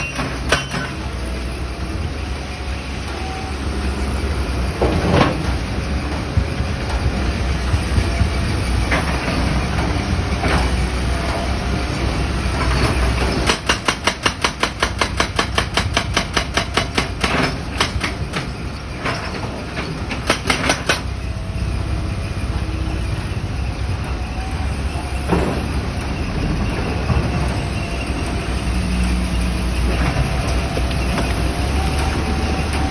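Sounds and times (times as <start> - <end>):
excavator engine running: 0.0 - 32.9.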